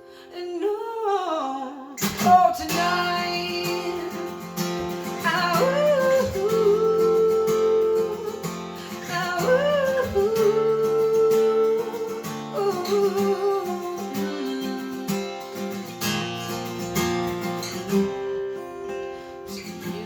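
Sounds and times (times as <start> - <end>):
strummed acoustic guitar: 2.0 - 20.0.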